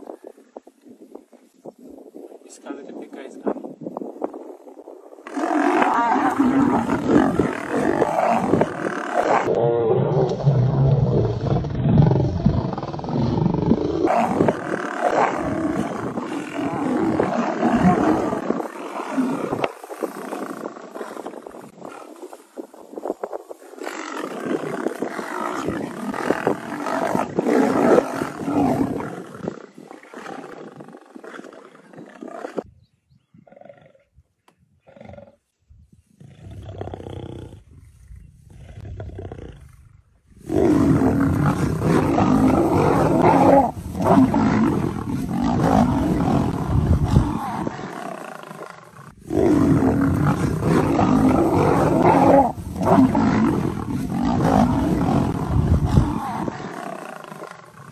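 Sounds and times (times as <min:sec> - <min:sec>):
lions growling and snarling: 0:05.2 - 0:22.4, 0:23.6 - 0:32.7, 0:36.2 - 0:57.9.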